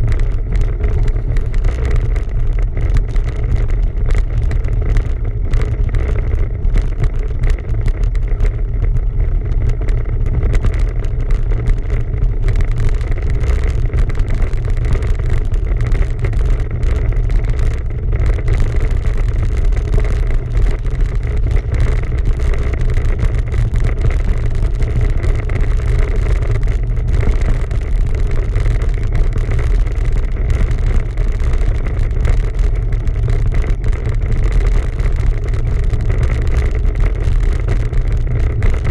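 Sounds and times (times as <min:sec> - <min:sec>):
bicycle road noise: 0:00.0 - 0:38.9
wind rumble on microphone: 0:00.0 - 0:38.9.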